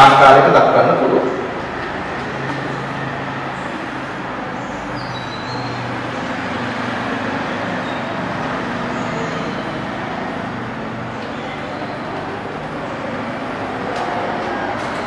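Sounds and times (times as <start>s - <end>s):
road traffic hiss: 0.0s - 15.0s
vehicle engines humming: 0.0s - 15.0s.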